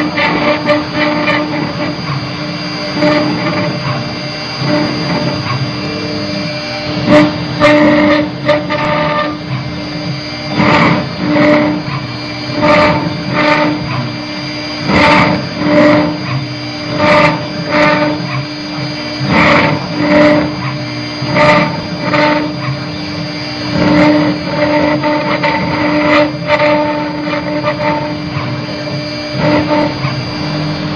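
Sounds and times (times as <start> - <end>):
cutter grinding stone: 0.0 - 30.9
router spindle tone: 0.0 - 30.9.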